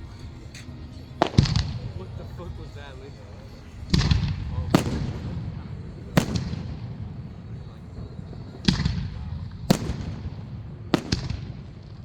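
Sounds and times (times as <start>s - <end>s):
low rumbling echo: 0.0s - 12.0s.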